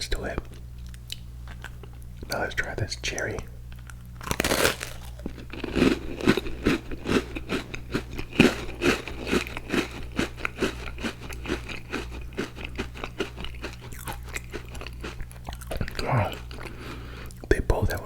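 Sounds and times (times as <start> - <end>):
crunchy chewing: 0.4 - 2.4, 3.7 - 18.0.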